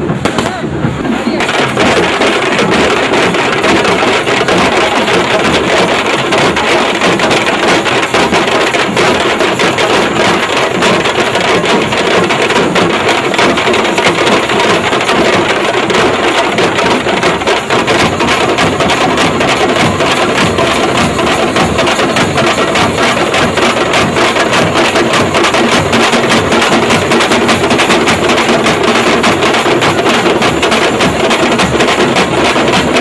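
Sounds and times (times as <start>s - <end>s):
many drums beating fast: 0.0s - 33.0s.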